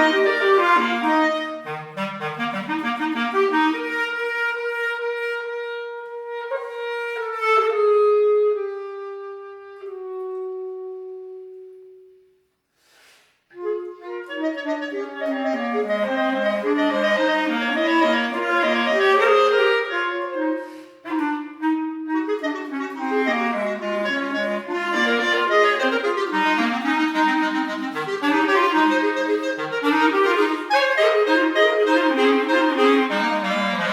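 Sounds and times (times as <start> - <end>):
clarinet melody: 0.0 - 12.5, 13.5 - 33.9.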